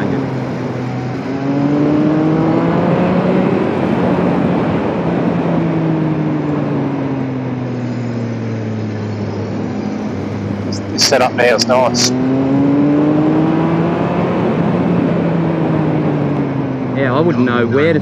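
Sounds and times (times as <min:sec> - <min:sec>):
wind rush: 0:00.0 - 0:16.9
motorcycle engine revving: 0:00.0 - 0:18.0.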